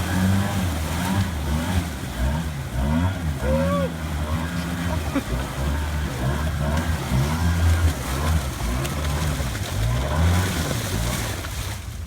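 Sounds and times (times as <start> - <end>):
engine revving: 0.0 - 11.5.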